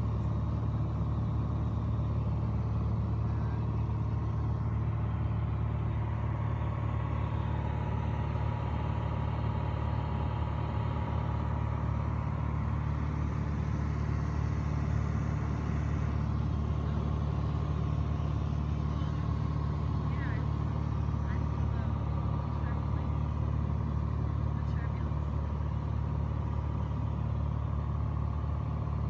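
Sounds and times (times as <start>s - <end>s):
aircraft engine and propeller droning: 0.0s - 29.0s.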